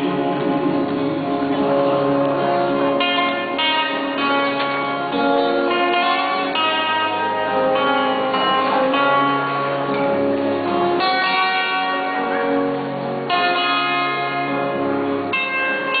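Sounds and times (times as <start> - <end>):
slow instrumental guitar: 0.0 - 16.0.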